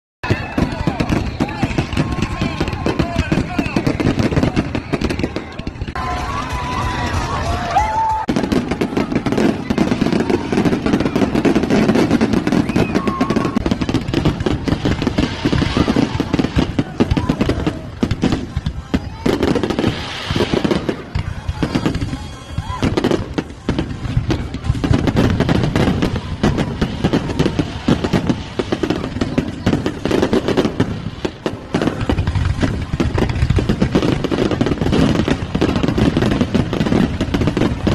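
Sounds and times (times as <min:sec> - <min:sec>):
fireworks crackling and banging: 0:00.2 - 0:37.9.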